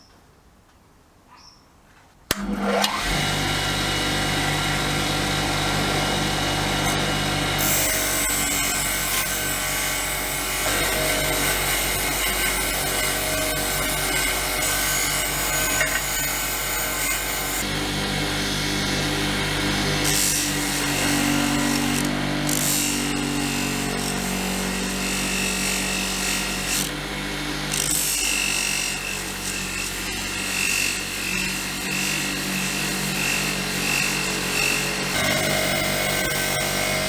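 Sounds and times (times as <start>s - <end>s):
power tool motor hum: 2.3s - 37.0s.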